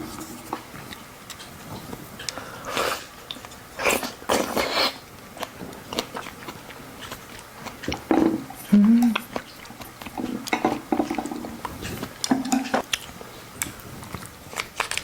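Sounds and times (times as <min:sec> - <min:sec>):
biting and chewing: 0:00.5 - 0:15.0.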